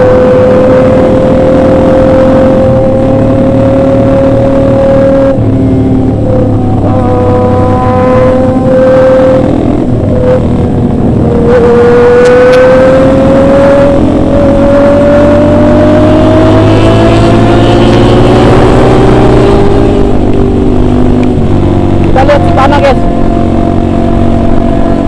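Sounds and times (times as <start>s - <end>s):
motorcycle engine running: 0.0s - 25.0s
wind rush: 0.0s - 25.0s.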